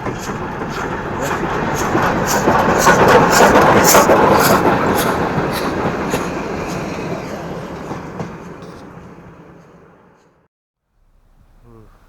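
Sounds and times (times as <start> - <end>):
wheels clicking over rail joints: 0.0 - 10.5
train rumbling past: 0.0 - 12.0.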